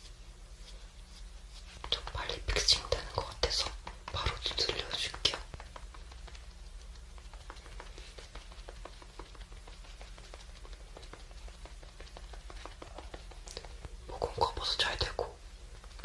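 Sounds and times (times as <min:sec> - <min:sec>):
sponge patting skin: 0:00.0 - 0:16.0.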